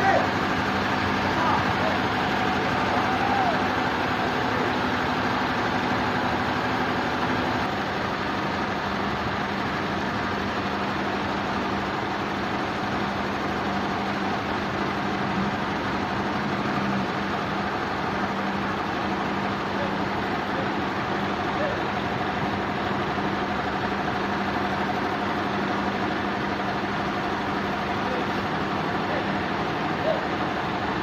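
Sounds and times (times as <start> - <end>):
sawmill machinery hum: 0.0 - 31.0.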